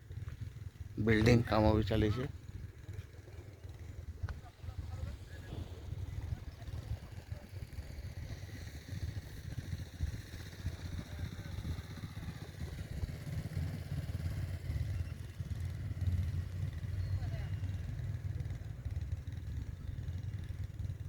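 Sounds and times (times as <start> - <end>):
vehicle engine low rumble: 0.0 - 21.0.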